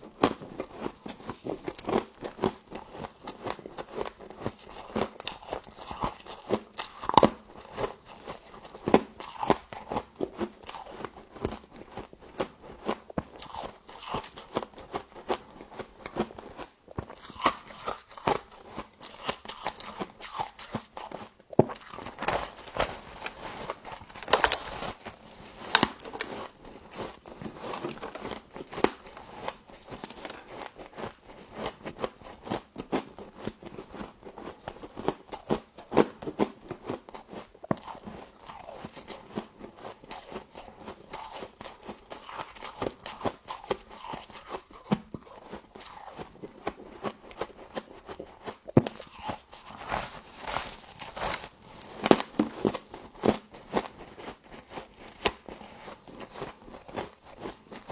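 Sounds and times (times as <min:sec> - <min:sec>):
frost being chewed crunching: 0:00.0 - 0:57.9.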